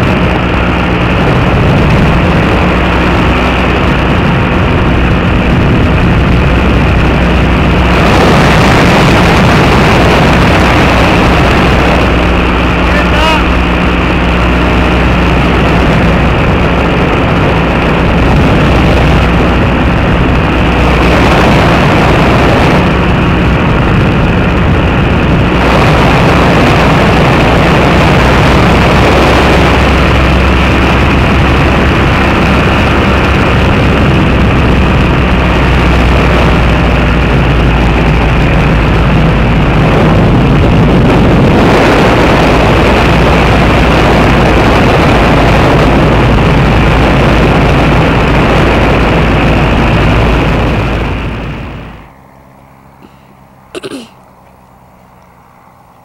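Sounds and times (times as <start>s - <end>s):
paratrike engine and propeller drone: 0.0s - 56.0s
rushing wind noise: 0.0s - 56.0s.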